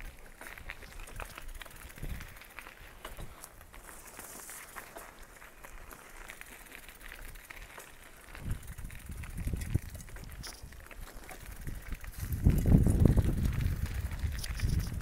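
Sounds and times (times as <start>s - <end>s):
footsteps crunching on gravel: 0.0s - 15.0s.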